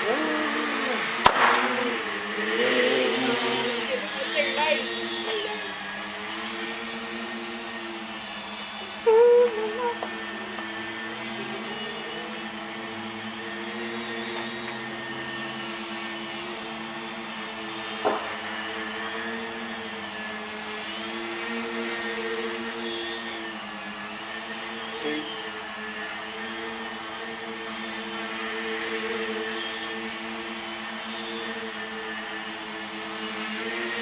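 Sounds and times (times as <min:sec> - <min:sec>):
drone motors buzzing: 0:00.0 - 0:34.0
high-pitched whine: 0:00.0 - 0:34.0.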